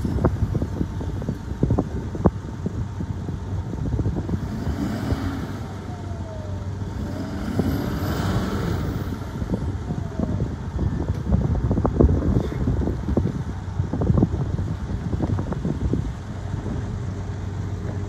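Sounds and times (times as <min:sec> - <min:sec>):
diesel truck idling: 0:00.0 - 0:18.0.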